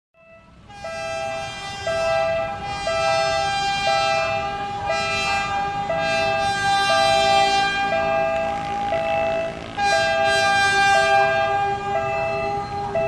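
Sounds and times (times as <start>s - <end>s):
train horn blast: 0.2s - 12.9s
crossing warning tone: 0.2s - 13.0s.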